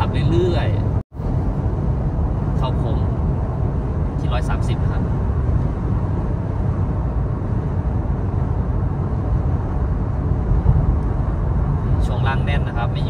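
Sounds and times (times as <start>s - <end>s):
road and tyre rumble inside vehicle: 0.0s - 13.0s.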